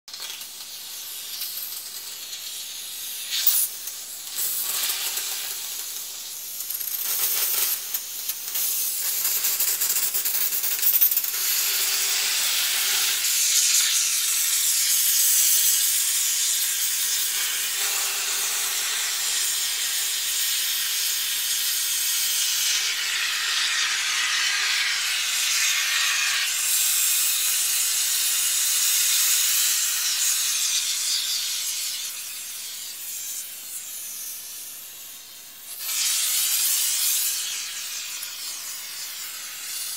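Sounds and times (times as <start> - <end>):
aerosol can hissing: 0.2 - 39.9.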